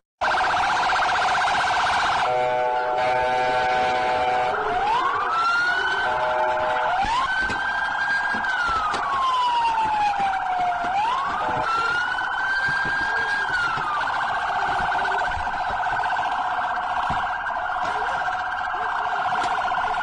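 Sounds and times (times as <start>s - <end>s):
police siren wail: 0.2s - 20.0s
police siren yelp warble: 0.2s - 20.0s.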